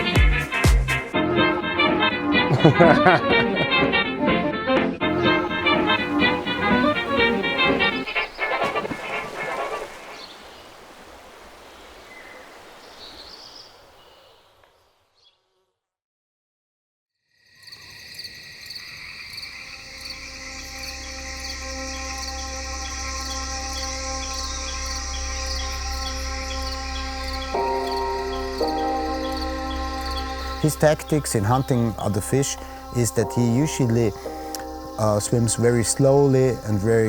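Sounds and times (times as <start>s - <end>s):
night insects chirping: 1.2s - 4.1s, 5.0s - 15.0s, 17.4s - 37.0s.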